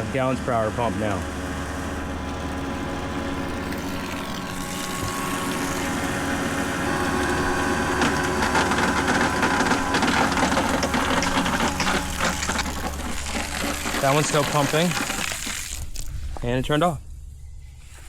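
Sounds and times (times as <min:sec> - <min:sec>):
bilge pump motor humming: 0:00.0 - 0:16.5.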